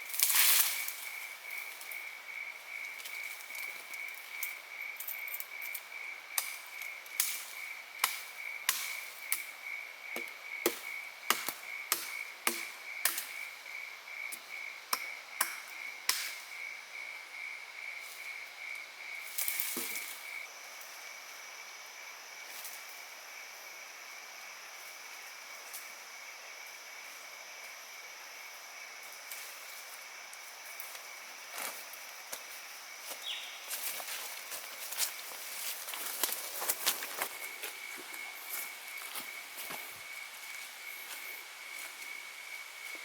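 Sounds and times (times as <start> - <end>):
high insect buzz: 0.0 - 43.0
insects pulsing trill: 0.0 - 43.0.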